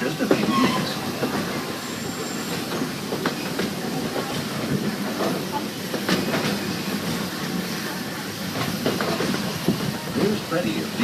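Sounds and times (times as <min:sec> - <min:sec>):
train cars rumbling along track: 0:00.0 - 0:11.0.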